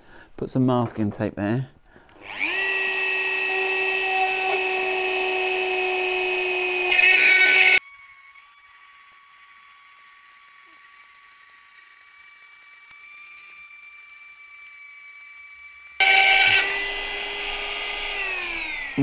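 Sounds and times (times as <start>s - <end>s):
rotary tool high-pitched whine: 2.2s - 19.0s.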